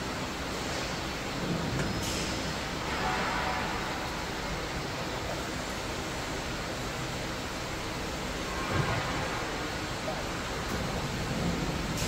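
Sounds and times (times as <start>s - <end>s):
machine hiss and hum: 0.0s - 12.0s.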